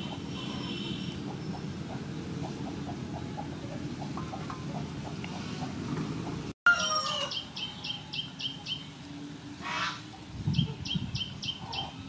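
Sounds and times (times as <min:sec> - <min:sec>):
birds calling: 0:00.0 - 0:09.0, 0:09.6 - 0:12.0.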